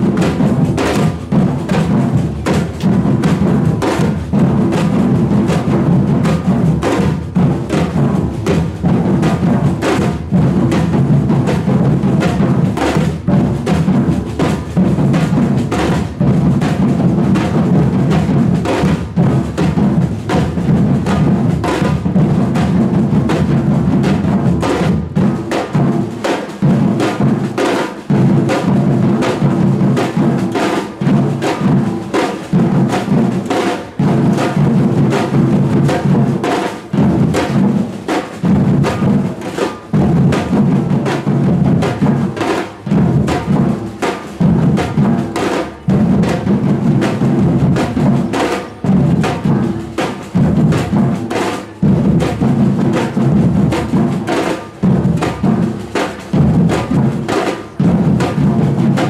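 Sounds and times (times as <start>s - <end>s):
samba drum band playing: 0.0s - 59.0s.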